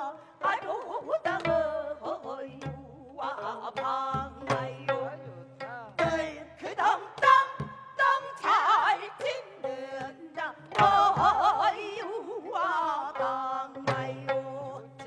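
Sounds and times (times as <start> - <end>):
women singing with vibrato: 0.0 - 15.0.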